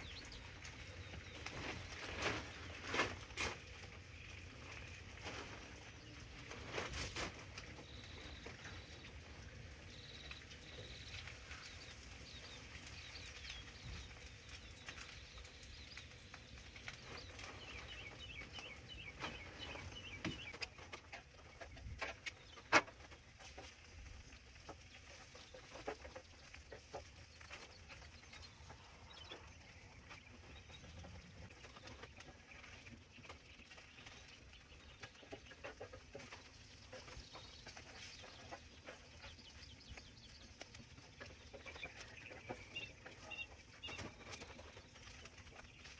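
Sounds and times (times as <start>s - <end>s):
faint bird chirps: 7.7s - 23.7s, 24.3s - 45.9s.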